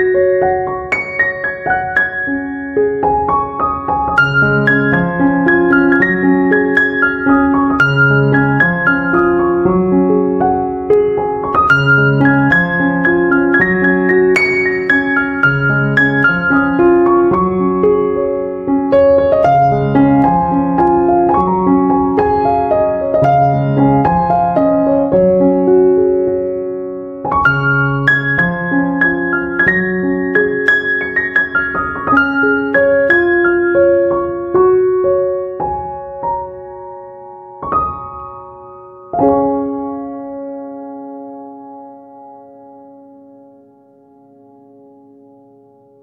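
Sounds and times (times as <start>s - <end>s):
slow piano melody: 0.0s - 46.0s.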